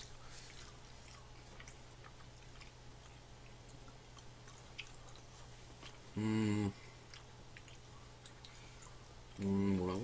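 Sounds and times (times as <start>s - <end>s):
faint chewing: 0.0s - 10.0s
low electrical hum: 0.0s - 10.0s.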